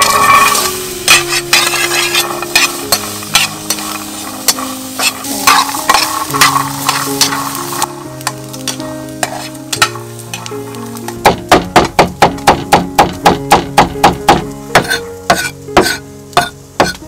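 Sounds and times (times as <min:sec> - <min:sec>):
utensil scraping pan: 0:00.0 - 0:11.6, 0:14.8 - 0:17.0
food sizzling in pan: 0:00.0 - 0:17.0
soft background music: 0:00.0 - 0:17.0.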